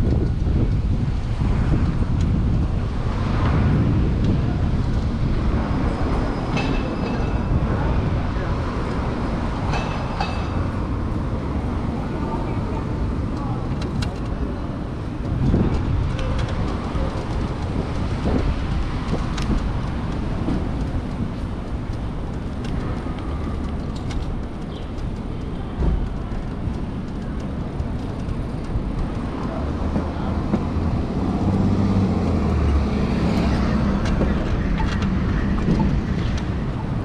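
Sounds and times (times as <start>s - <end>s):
road noise: 0.0s - 37.0s
wind rush on microphone: 0.0s - 37.0s.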